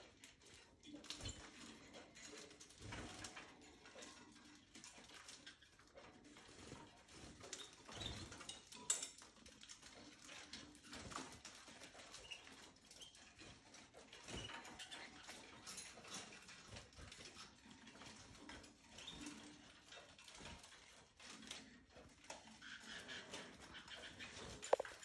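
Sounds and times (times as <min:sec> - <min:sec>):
birds scratching and clicking: 0:00.0 - 0:25.0.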